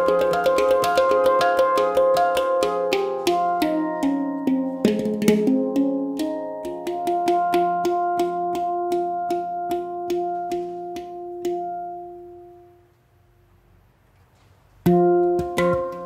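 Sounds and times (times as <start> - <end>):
handpan notes: 0.0 - 12.7, 14.9 - 16.0.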